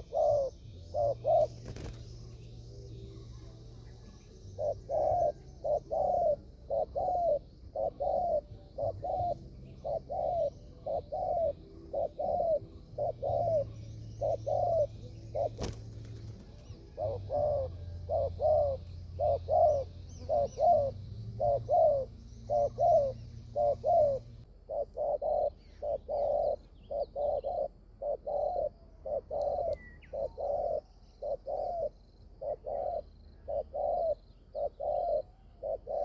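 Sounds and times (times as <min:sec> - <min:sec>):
dove cooing: 0:00.0 - 0:36.0
faint high bird chirps: 0:00.0 - 0:36.0.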